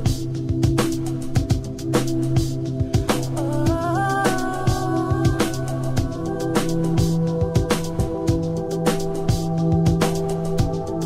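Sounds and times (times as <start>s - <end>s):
electronic music: 0.0s - 11.0s
steady drum beat: 0.0s - 11.0s.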